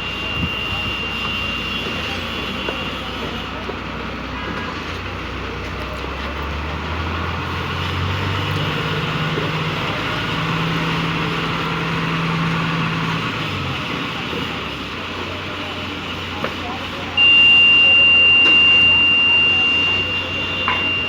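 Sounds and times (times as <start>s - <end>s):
heavy vehicle engine droning: 0.0s - 21.0s
traffic noise: 0.0s - 21.0s.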